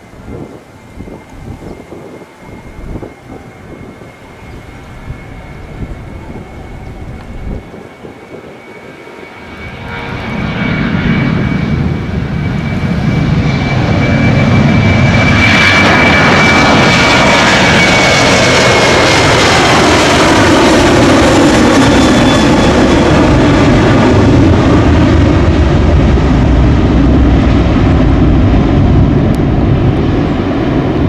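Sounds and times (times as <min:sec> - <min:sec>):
high engine whine: 0:00.0 - 0:31.0
jet engines spooling up: 0:00.0 - 0:31.0.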